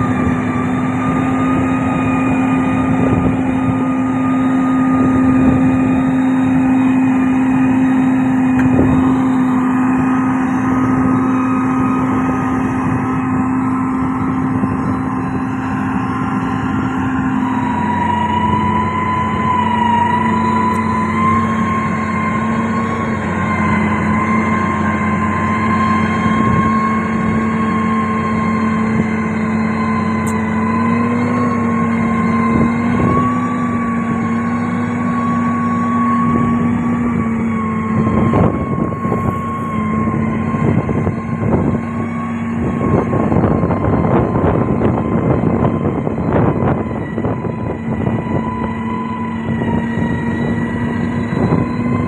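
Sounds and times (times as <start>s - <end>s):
motor grader humming: 0.0s - 52.0s.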